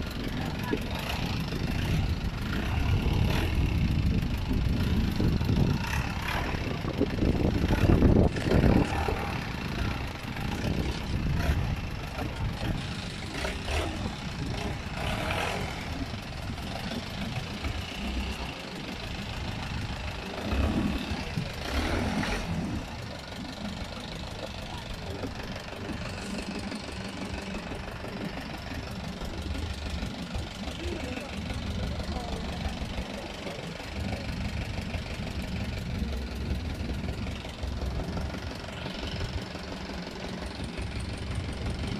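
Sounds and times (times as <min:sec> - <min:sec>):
boat engine running: 0:00.0 - 0:41.9
wind: 0:00.0 - 0:41.9.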